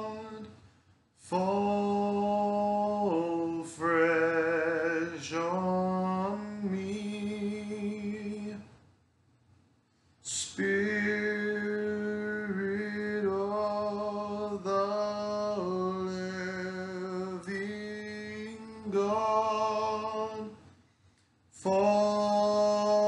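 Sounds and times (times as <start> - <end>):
man singing a hymn: 0.0 - 0.6, 1.2 - 8.8, 10.2 - 20.7, 21.5 - 23.0.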